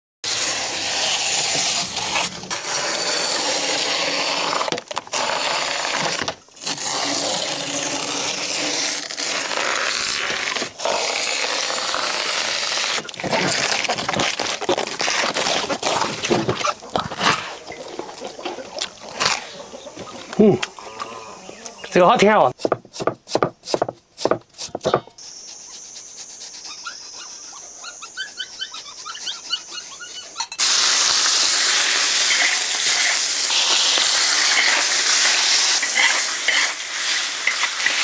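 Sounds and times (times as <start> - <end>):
tearing and scraping plant fibres: 0.2 - 20.4, 22.5 - 38.0.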